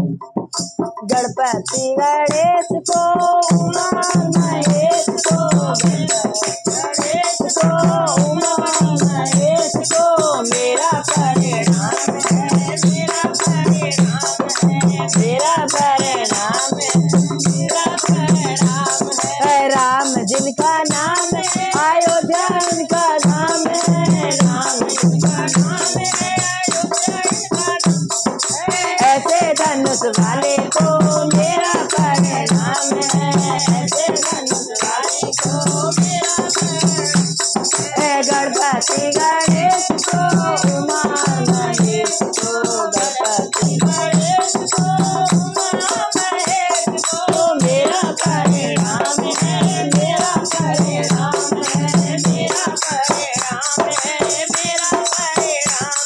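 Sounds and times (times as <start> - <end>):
boy and women singing: 0.0 - 56.0
hand drum beating: 0.0 - 56.0
hand cymbals and clapper jingling: 0.2 - 56.0.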